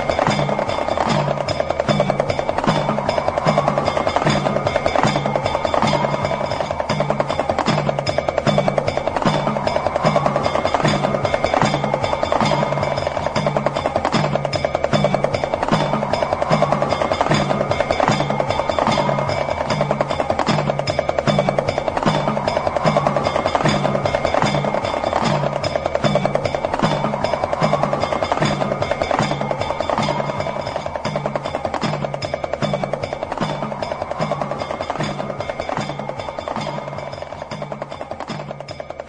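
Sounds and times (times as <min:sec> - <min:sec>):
hand drum rattling: 0:00.0 - 0:39.0.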